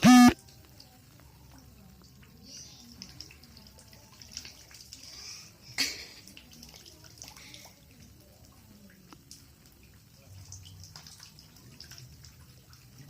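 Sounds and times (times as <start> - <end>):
water dripping: 0.0 - 13.0.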